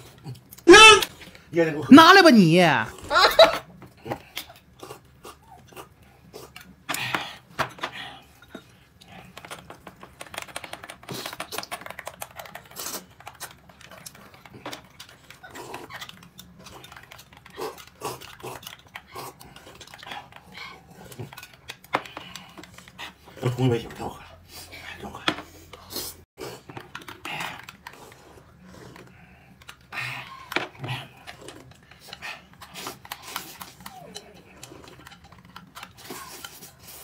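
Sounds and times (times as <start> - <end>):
chewing and crunching food: 0.0 - 1.5, 3.7 - 37.0.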